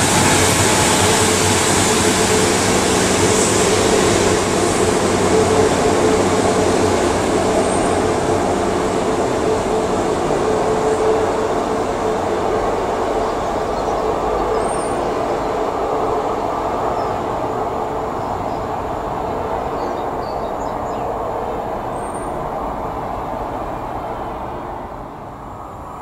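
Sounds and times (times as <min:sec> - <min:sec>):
diesel train engine droning: 0:00.0 - 0:26.0.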